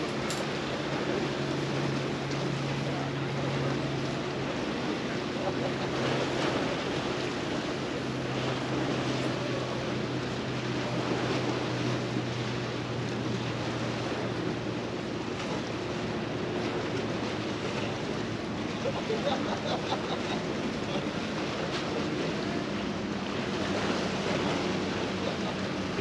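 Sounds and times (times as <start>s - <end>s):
low engine hum: 0.0s - 26.0s
water noise: 0.0s - 26.0s
wind: 0.0s - 26.0s.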